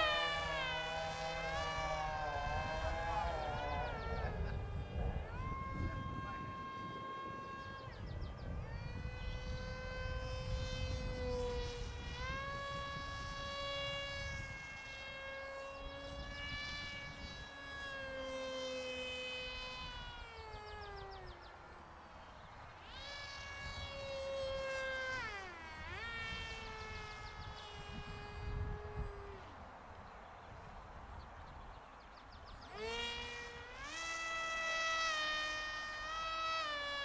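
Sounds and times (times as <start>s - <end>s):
model jet electric motor whine: 0.0s - 37.0s.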